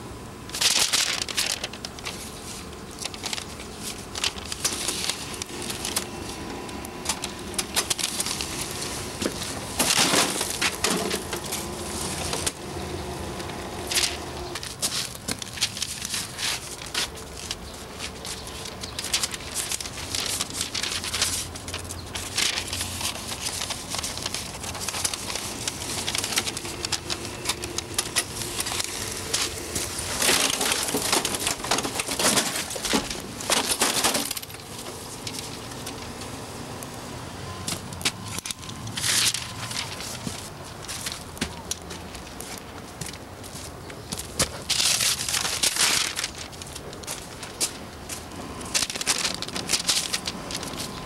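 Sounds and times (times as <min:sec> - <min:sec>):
paper rustling and crackling: 0:00.5 - 0:36.4, 0:37.5 - 0:51.0.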